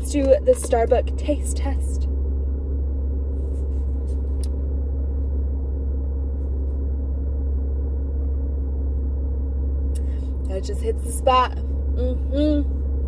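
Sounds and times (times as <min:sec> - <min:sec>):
car running inside cabin: 0:00.0 - 0:13.0.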